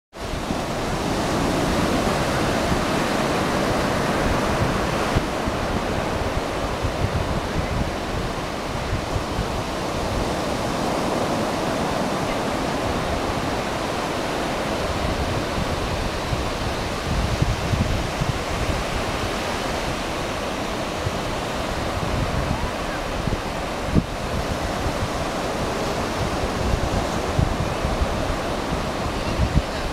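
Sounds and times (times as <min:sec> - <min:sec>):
ocean surf washing ashore: 0:00.2 - 0:29.9
wind buffeting microphone: 0:00.2 - 0:29.9.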